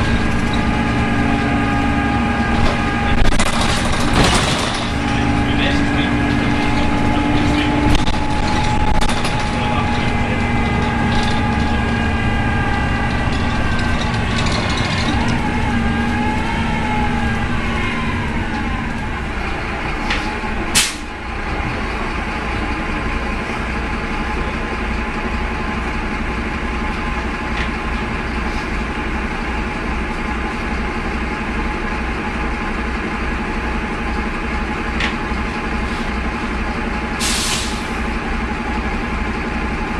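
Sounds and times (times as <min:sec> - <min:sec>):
bus engine howling whine: 0:00.0 - 0:39.9.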